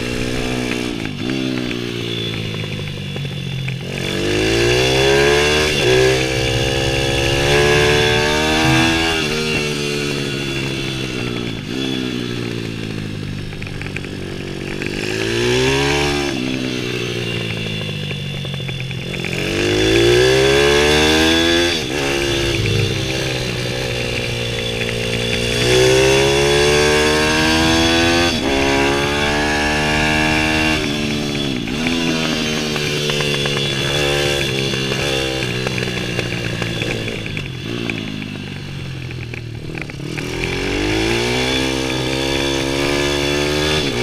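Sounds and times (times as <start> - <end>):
small motorbike engine accelerating: 0.0 - 44.0.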